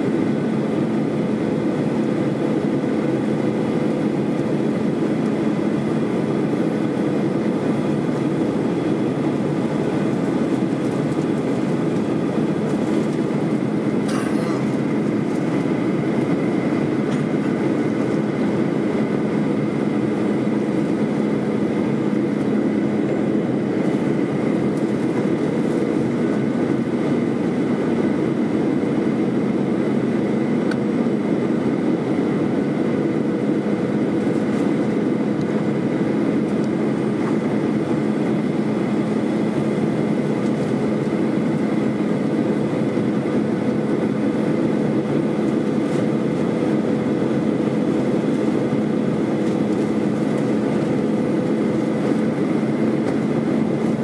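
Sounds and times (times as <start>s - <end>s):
jet airliner cabin drone: 0.0s - 54.0s.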